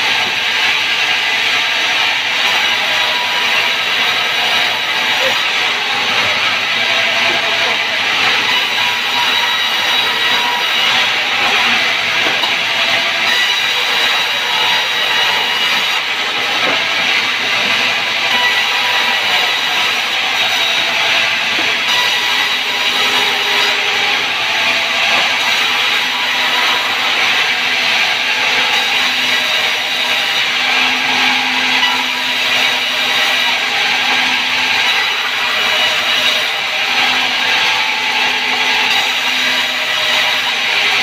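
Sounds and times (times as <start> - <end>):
band saw cutting wood: 0.0 - 41.0.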